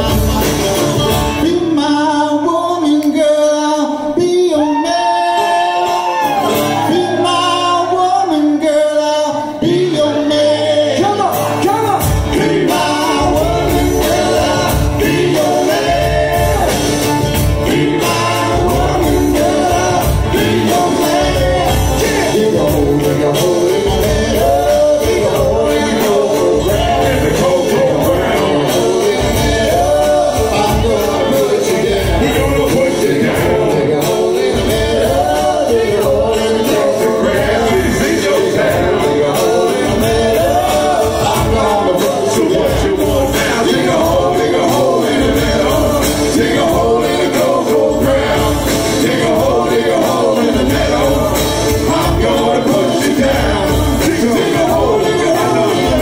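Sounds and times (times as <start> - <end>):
banjo: 0.0 - 3.2, 9.3 - 56.0
acoustic guitar: 0.0 - 56.0
voices singing together: 0.0 - 56.0.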